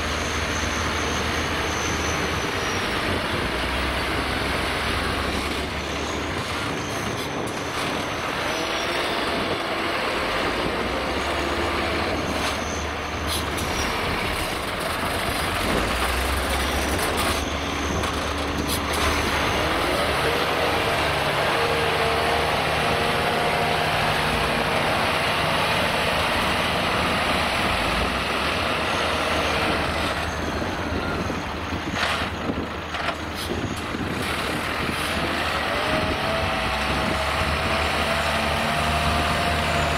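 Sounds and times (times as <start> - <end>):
diesel truck engine straining: 0.0 - 39.9.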